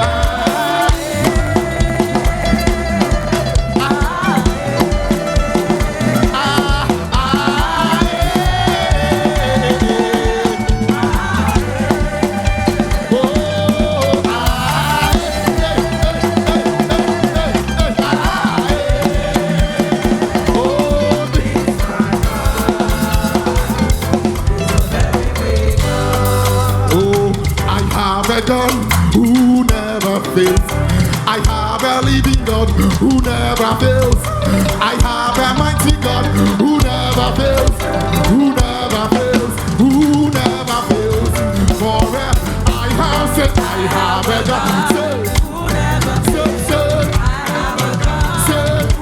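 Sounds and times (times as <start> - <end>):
church praise music: 0.0 - 49.0
drum kit beat: 0.0 - 49.0.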